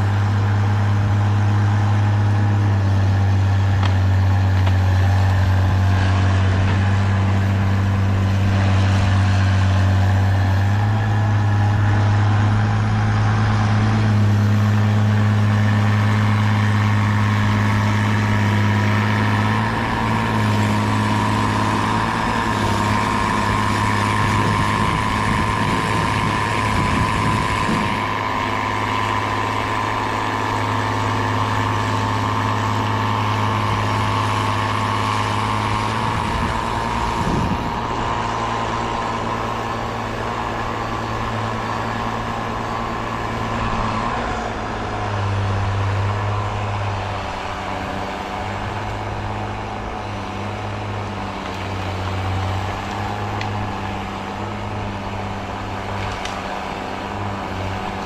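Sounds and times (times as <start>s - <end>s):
constant whine: 0.0s - 58.0s
heavy diesel engine running: 0.0s - 58.0s.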